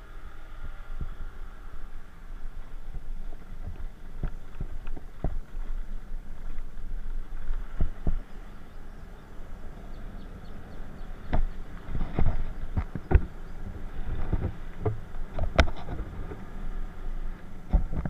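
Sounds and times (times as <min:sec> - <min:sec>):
road noise: 0:00.0 - 0:18.0
scooter engine rumble: 0:00.0 - 0:18.0.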